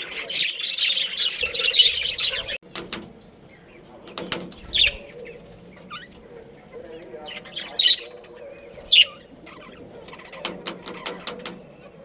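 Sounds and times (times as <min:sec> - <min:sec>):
budgerigars chirping: 0:00.0 - 0:02.6, 0:03.4 - 0:12.0.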